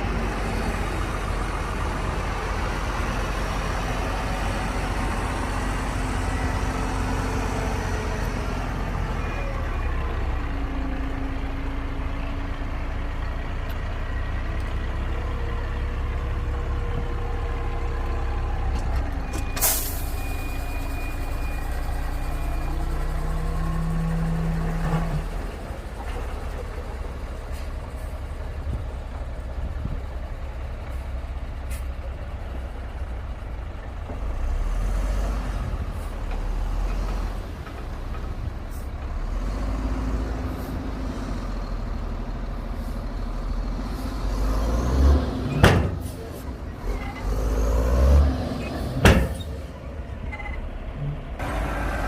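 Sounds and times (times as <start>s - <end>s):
heavy diesel machinery running: 0.0s - 52.0s.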